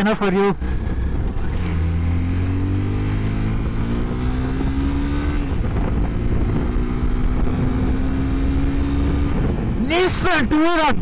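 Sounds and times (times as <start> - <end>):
wind rumble on microphone: 0.5 - 11.0
motorcycle engine revving: 0.6 - 9.8.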